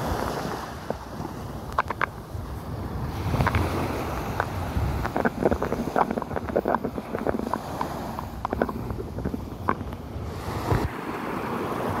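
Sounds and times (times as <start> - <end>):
small waves lapping on beach: 0.0 - 12.0
wind buffeting microphone: 0.0 - 12.0.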